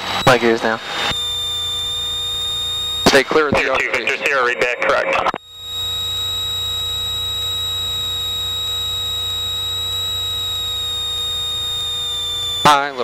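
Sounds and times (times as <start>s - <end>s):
low hum: 0.0s - 4.3s, 5.1s - 13.0s
high-pitched electronic tone: 0.0s - 13.0s.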